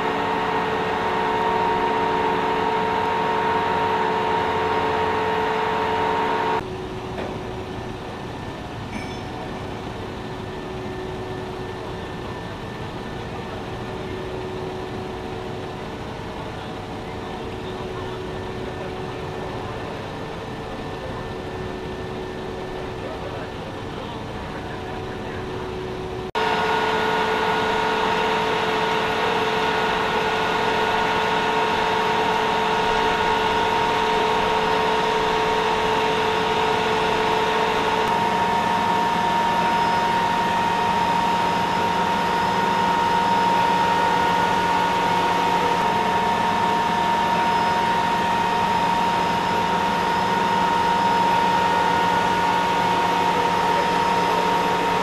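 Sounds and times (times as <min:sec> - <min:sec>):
heavy machinery droning: 0:00.0 - 0:55.0.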